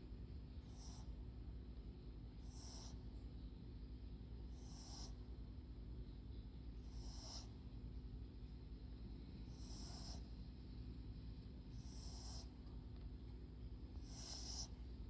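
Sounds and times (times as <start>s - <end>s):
dog snoring softly: 0.5s - 1.5s, 2.1s - 3.4s, 4.3s - 15.0s.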